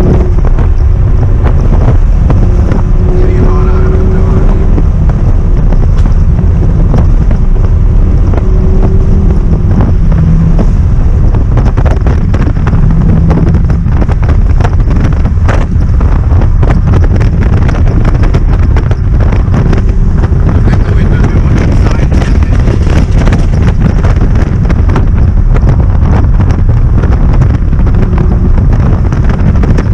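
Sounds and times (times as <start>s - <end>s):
car engine running loud and deep: 0.0s - 29.9s
wind buffeting microphone: 0.0s - 29.9s.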